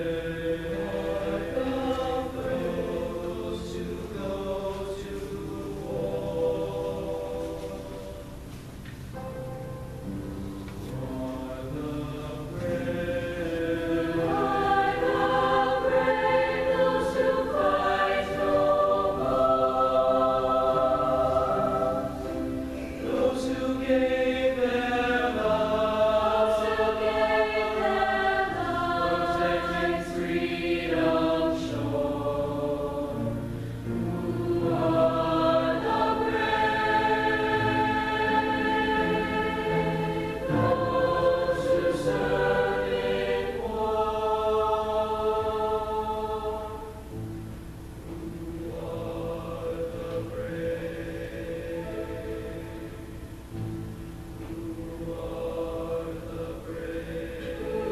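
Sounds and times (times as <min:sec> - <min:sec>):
choir singing slow chords: 0:00.0 - 0:57.9.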